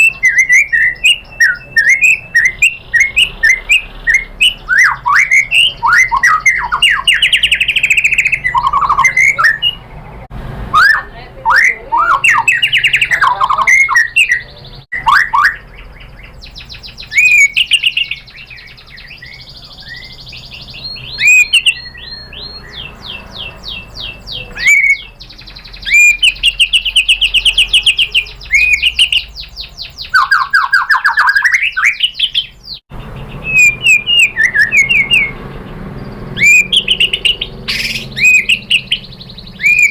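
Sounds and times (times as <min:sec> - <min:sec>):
songbird singing whistled notes: 0:00.0 - 0:10.0, 0:10.8 - 0:39.9.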